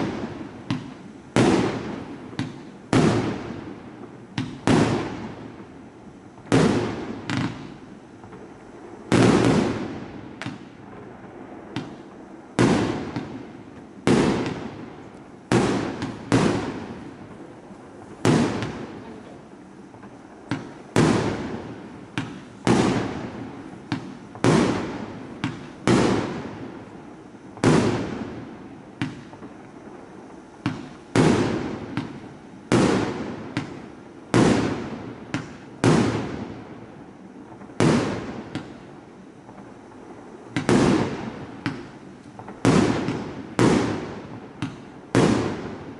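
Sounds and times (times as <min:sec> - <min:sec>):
firework shots banging: 0:00.0 - 0:05.6, 0:06.4 - 0:26.9, 0:27.5 - 0:36.6, 0:37.5 - 0:45.9.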